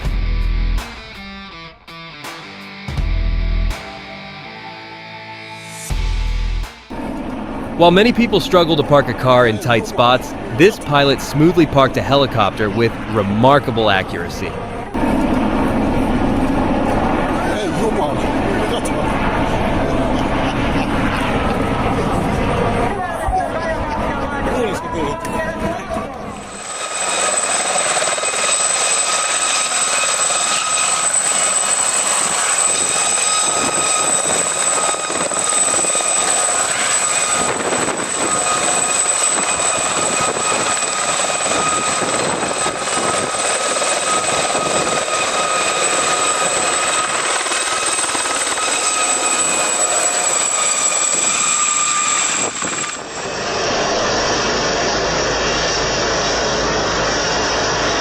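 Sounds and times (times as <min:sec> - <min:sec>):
helicopter rush and whine: 0:00.0 - 0:58.0
dull steady rushing noise: 0:05.7 - 0:58.0.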